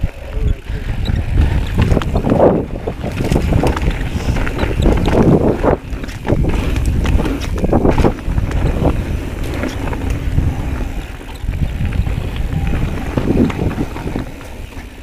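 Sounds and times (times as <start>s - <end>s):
bike clicks and knocks: 0.0s - 15.0s
bike rolling on dirt trail: 0.0s - 15.0s
wind noise on microphone: 0.0s - 15.0s.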